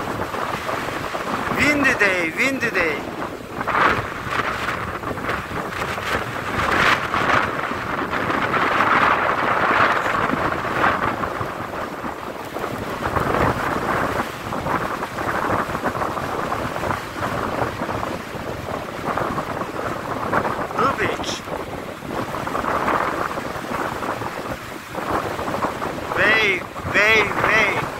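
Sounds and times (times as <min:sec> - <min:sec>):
sea waves breaking: 0:00.0 - 0:27.9
strong wind on microphone: 0:00.0 - 0:27.9.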